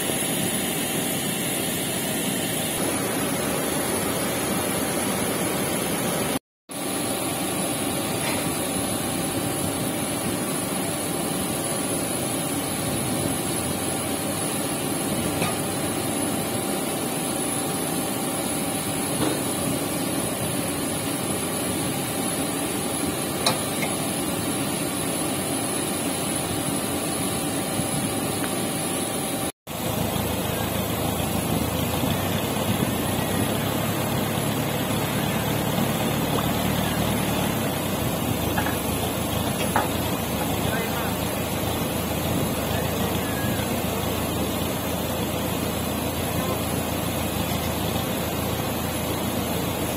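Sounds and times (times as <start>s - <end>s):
aircraft equipment drone and hiss: 0.0s - 49.9s
tow tractor engine hum: 0.0s - 49.9s.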